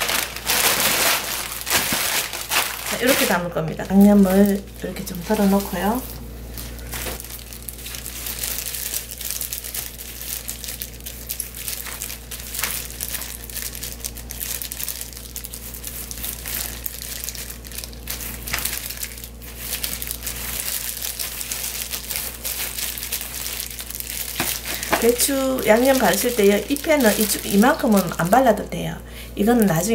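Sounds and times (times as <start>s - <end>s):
plastic gloves crinkling: 0.0s - 29.9s.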